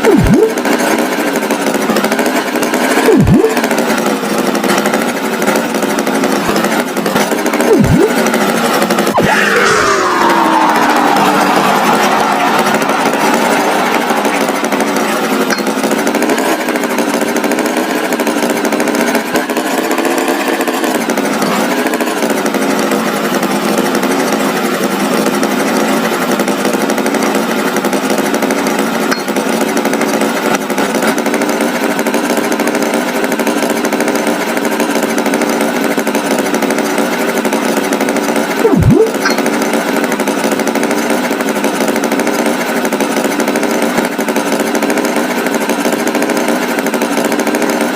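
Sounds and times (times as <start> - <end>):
motor engine buzzing drone: 0.0 - 47.9.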